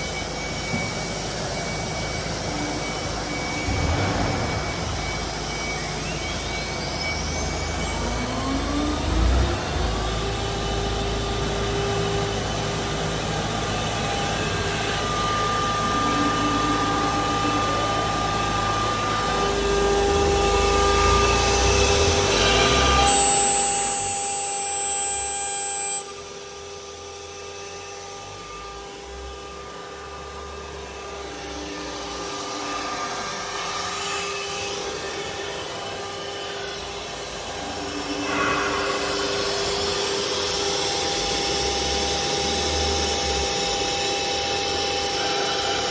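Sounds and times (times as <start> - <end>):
cnc router whining: 0.0 - 45.9.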